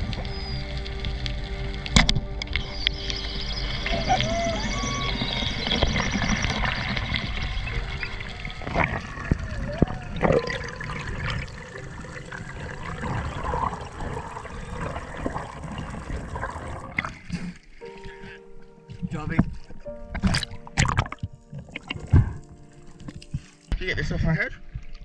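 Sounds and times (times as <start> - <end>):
underwater rushing and bubbling: 0.0 - 18.1, 19.8 - 25.0.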